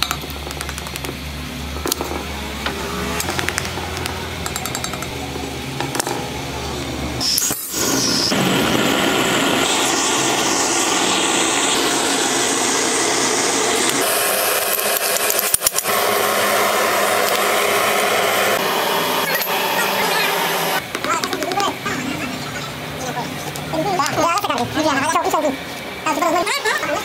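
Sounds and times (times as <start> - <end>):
gas burner roaring: 0.0 - 27.0
workshop machine noise: 0.0 - 27.0.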